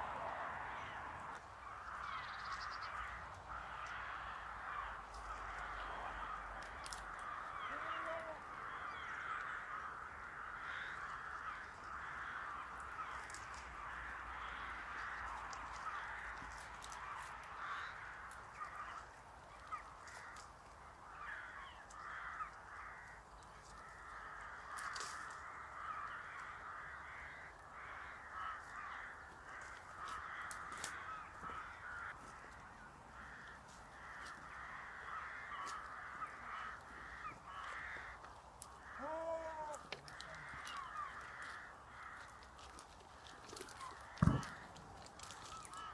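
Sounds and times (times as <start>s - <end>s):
flock of birds calling: 0.0s - 45.9s.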